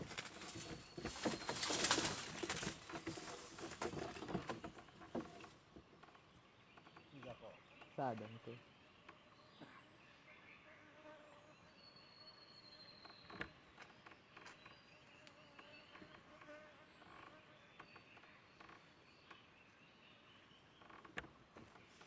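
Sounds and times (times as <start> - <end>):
insects: 0.0 - 19.8.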